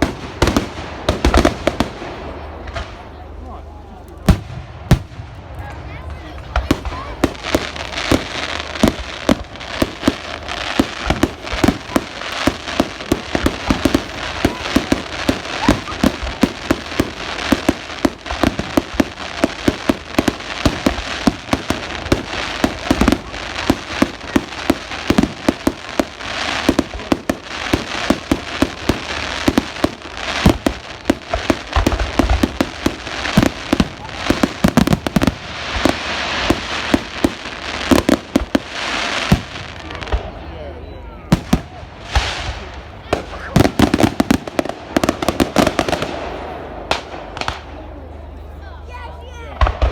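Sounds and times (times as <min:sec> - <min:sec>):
heavy fireworks booms: 0:00.0 - 0:48.4, 0:49.5 - 0:49.9
fireworks bangs and crackling: 0:00.0 - 0:49.9.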